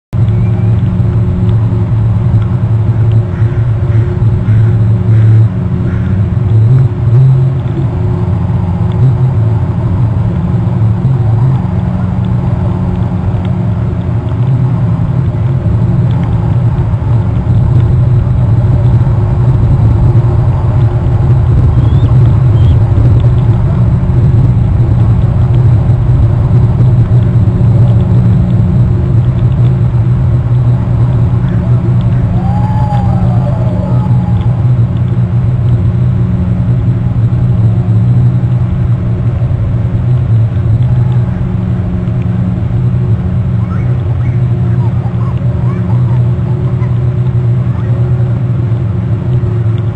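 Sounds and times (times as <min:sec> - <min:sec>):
loud low rumble: 0:00.1 - 0:49.9.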